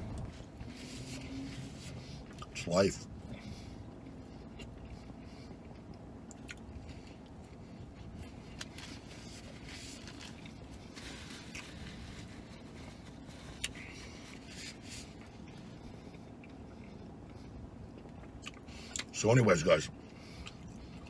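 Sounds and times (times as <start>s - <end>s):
man chewing: 0.0s - 2.6s, 3.2s - 19.1s, 20.0s - 21.0s
steady low hum: 0.0s - 21.0s.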